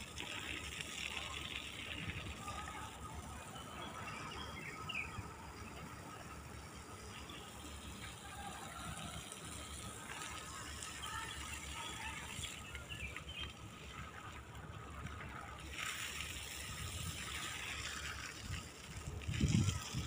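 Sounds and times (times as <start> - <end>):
hose water spraying on soil: 0.0 - 20.0.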